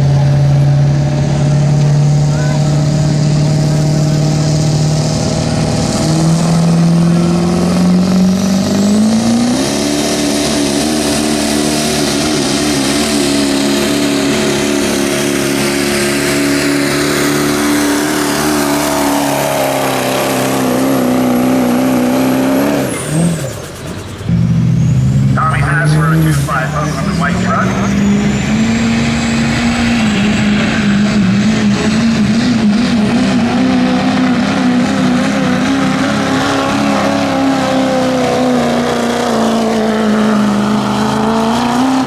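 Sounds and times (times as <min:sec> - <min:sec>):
truck engine at full throttle: 0:00.0 - 0:42.0.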